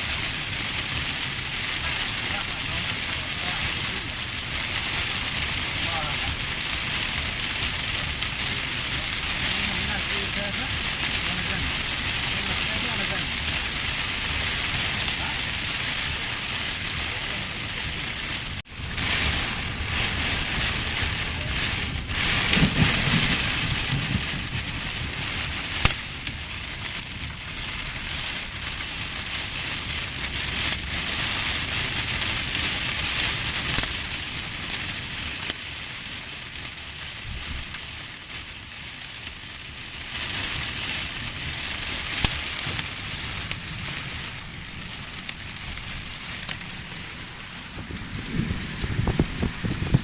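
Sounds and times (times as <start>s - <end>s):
heavy rain pouring: 0.0s - 50.0s
low rumble: 0.2s - 31.6s, 40.4s - 50.0s.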